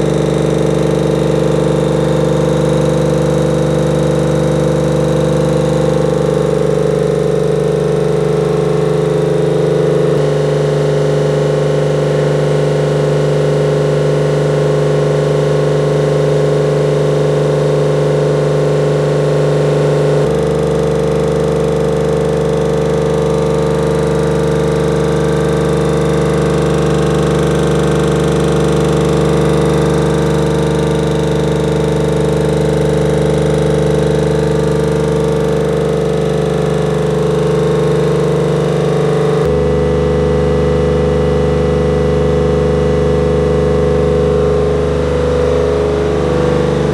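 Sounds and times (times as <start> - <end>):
air compressor running: 0.0 - 46.9.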